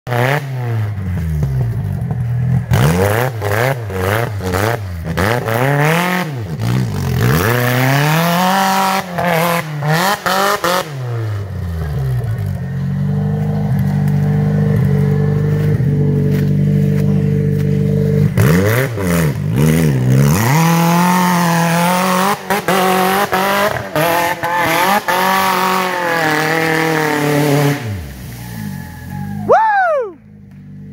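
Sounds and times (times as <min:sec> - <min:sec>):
buggy engine revving hard: 0:00.1 - 0:29.6.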